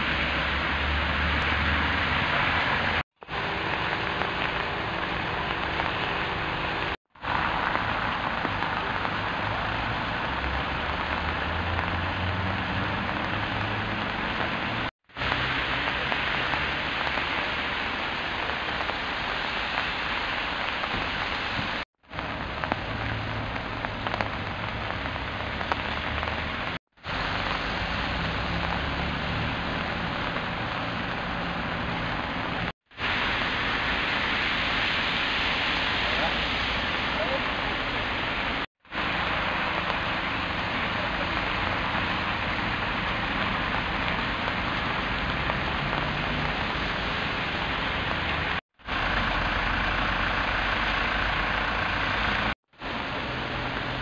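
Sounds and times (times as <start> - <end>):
rain on a wet street: 0.0 - 54.0.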